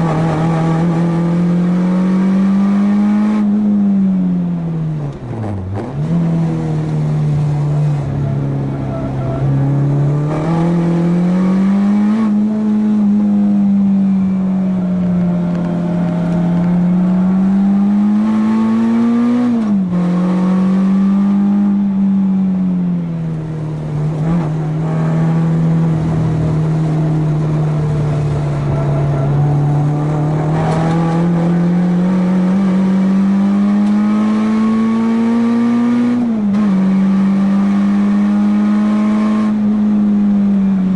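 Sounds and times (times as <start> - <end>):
car engine revving hard: 0.0 - 4.0, 8.8 - 13.9, 15.1 - 22.4, 23.6 - 40.9.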